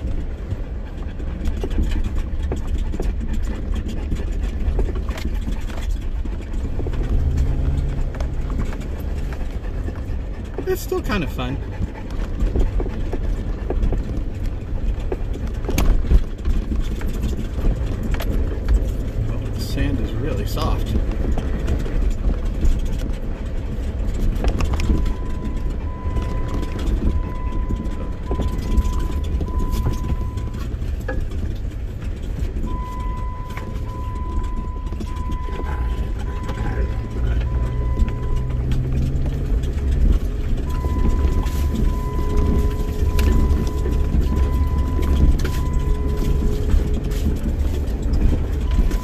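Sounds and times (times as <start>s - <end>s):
engine and tyres rumbling: 0.0s - 49.0s
knocks and rattles from bumps: 0.0s - 49.0s.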